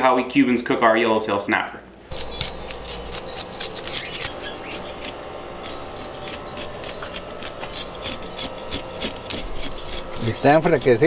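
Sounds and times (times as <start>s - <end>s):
knife scraping fish: 2.1s - 11.0s.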